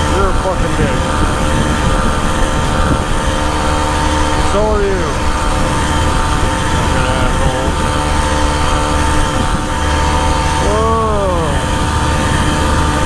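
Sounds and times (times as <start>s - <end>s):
motorized bicycle engine running: 0.0s - 13.0s.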